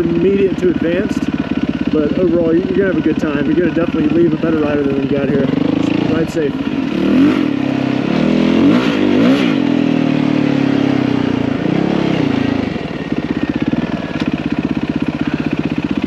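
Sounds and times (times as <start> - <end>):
dirt bike engine revving and idling: 0.0 - 16.0.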